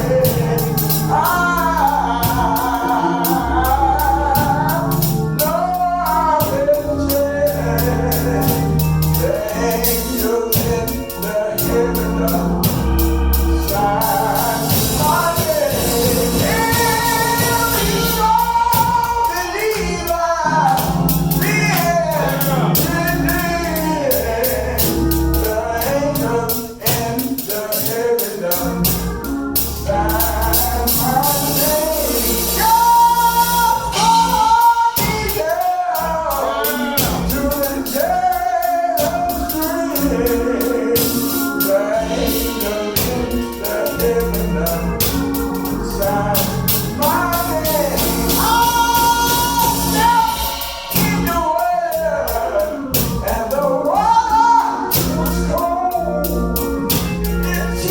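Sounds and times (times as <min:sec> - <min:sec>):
instrumental backing: 0:00.0 - 0:57.9
voices singing gospel song: 0:00.0 - 0:57.9.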